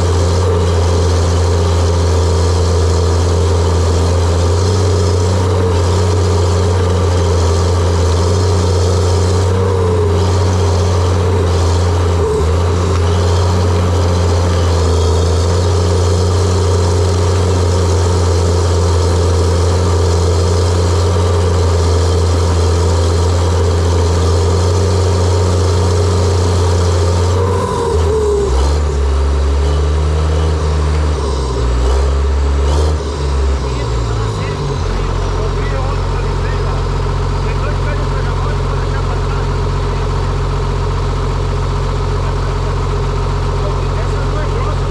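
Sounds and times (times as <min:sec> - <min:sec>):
bulldozer engine running: 0:00.0 - 0:44.9.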